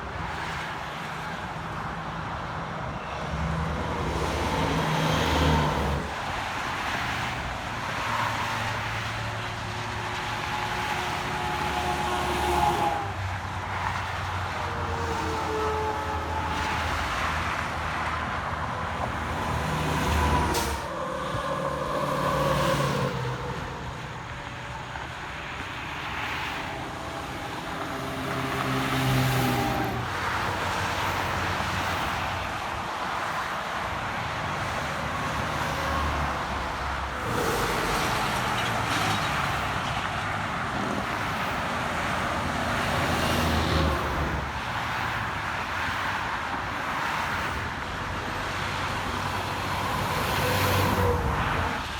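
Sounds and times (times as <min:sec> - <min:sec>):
traffic passing by: 0:00.0 - 0:51.9.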